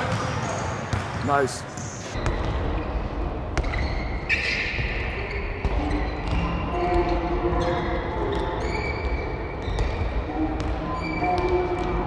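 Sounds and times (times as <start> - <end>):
sneakers squeaking: 0.0 - 2.5, 3.6 - 12.0.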